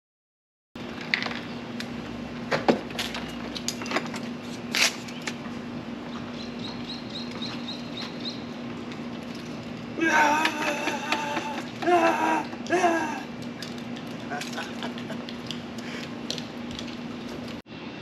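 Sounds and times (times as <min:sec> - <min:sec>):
steady hum: 0:00.8 - 0:18.0.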